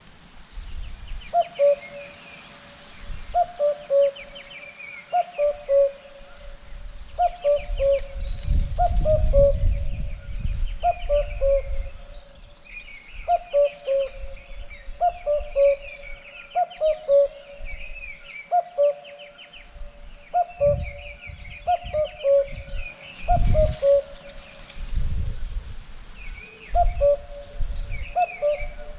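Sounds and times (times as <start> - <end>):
small birds chirping faintly: 0.0 - 28.9
cuckoo calling: 0.8 - 28.9.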